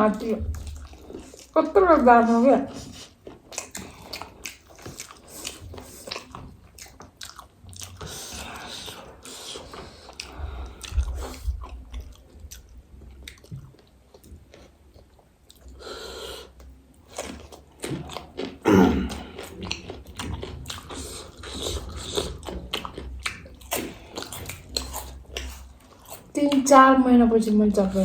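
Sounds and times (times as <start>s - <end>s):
crunchy chewing: 0.5s - 1.6s, 2.7s - 15.8s, 16.4s - 26.7s.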